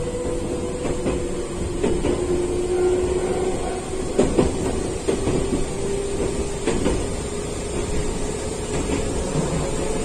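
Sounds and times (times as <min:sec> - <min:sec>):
railcar rumbling: 0:00.0 - 0:10.0.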